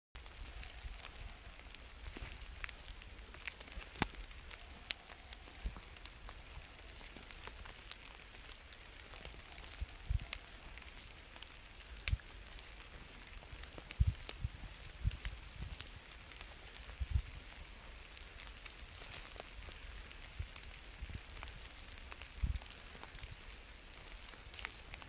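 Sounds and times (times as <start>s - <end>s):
faint ticks and crackles: 0.2s - 25.0s
steady outdoor hiss: 0.2s - 25.0s.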